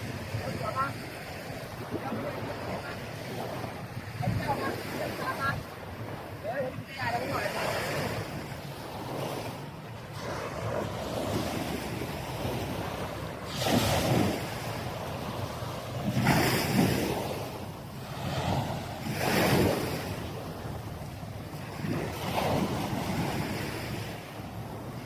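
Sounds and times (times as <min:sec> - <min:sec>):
waves washing onto beach: 0:00.0 - 0:25.0
wind buffeting microphone: 0:00.0 - 0:25.0.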